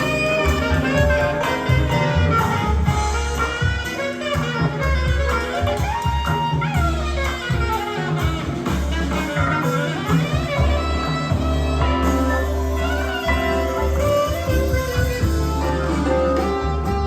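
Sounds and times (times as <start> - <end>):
music with strong bass line: 0.0 - 17.0.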